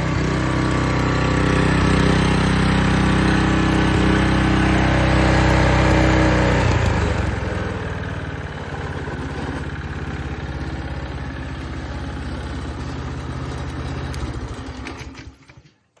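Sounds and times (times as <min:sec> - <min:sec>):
tiller engine running: 0:00.0 - 0:16.0.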